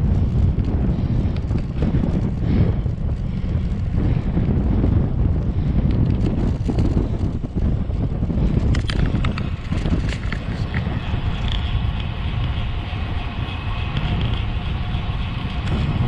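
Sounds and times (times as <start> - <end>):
tyre and road noise: 0.0 - 16.0
wind buffeting microphone: 0.0 - 16.0.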